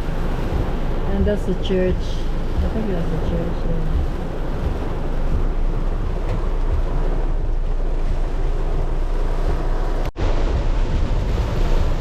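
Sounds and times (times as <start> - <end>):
heavy rain on car: 0.0 - 12.0.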